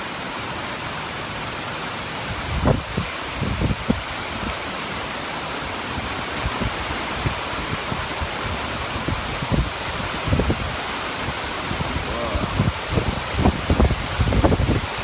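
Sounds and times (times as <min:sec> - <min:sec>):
storm wind and rain: 0:00.0 - 0:15.0
wind buffeting microphone: 0:02.2 - 0:05.1, 0:05.7 - 0:15.0.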